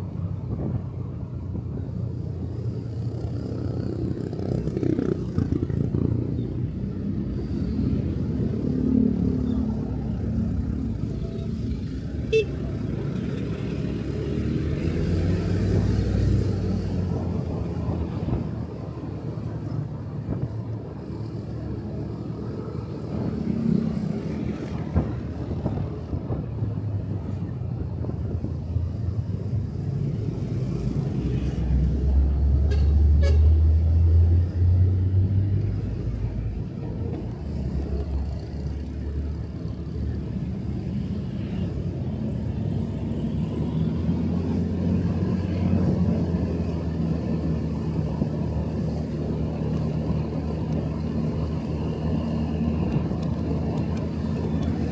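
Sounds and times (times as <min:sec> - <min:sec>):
road and wind noise: 0:00.0 - 0:54.9.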